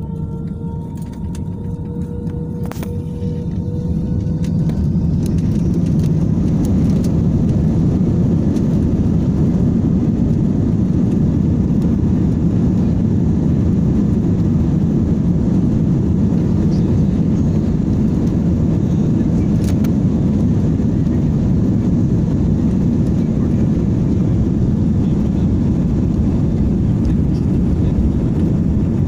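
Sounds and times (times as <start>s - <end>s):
faint whine: 0.0s - 29.0s
jet engines roaring: 0.0s - 29.0s.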